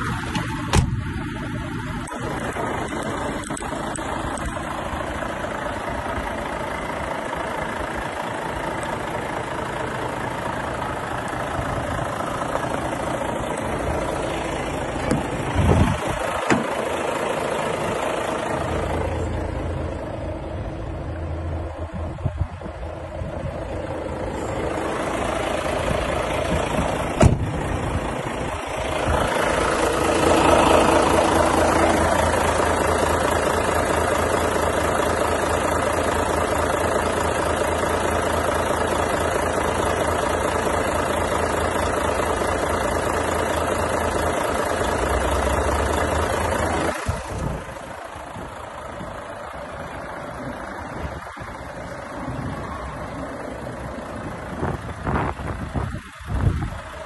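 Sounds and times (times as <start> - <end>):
diesel truck idling: 0.0 - 57.0.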